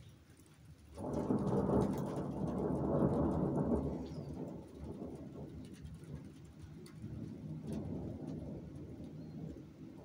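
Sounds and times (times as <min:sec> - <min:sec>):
light rain: 0:00.0 - 0:10.0
rolling thunder: 0:01.0 - 0:10.0.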